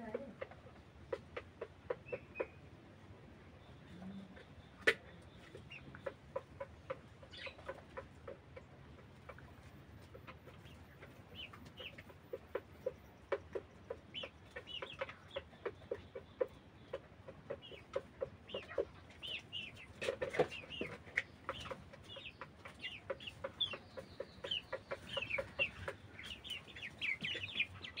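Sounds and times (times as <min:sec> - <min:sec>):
chickens clucking and peeping: 0:00.0 - 0:28.0.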